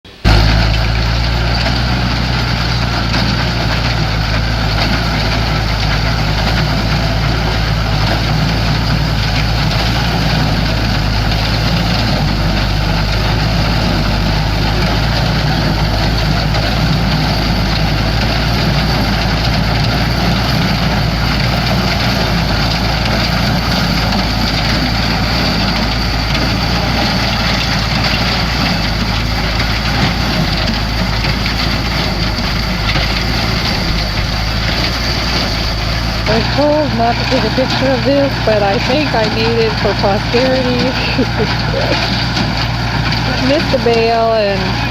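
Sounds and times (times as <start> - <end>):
hay baler running: 0.0 - 44.9
tractor engine running: 0.0 - 44.9.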